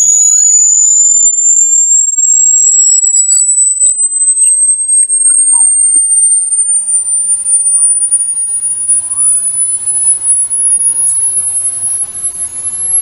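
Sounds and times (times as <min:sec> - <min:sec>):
high-pitched electronic tone: 0:00.0 - 0:13.0.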